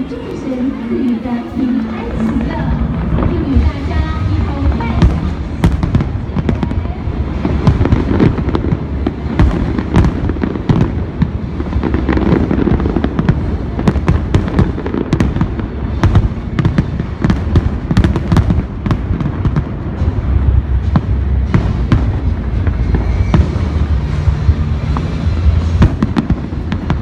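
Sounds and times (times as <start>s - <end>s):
fireworks booming: 0.0s - 27.0s
fireworks cracking: 0.0s - 27.0s.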